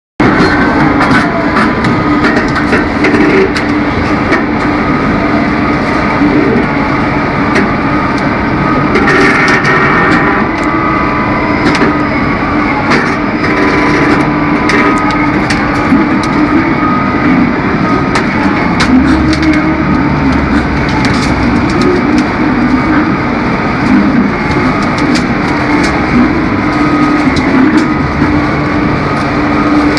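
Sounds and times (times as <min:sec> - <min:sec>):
heavy machinery running: 0:00.2 - 0:29.9.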